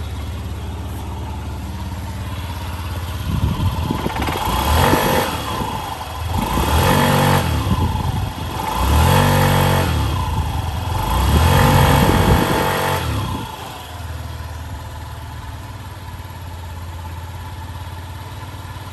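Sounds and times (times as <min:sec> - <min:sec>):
scooter engine revving and idling: 0:00.0 - 0:18.9.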